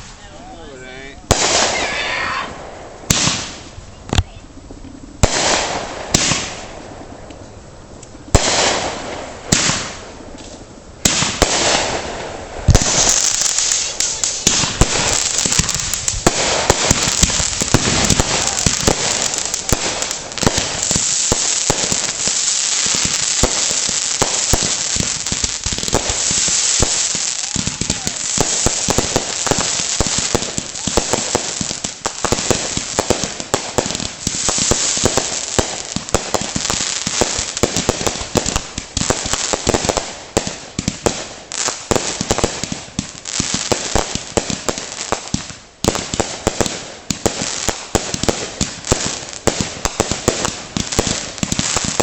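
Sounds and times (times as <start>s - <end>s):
firework bangs with crackling hiss: 0.0s - 7.2s, 8.1s - 52.0s
rapid crackling and popping fireworks: 0.0s - 52.0s.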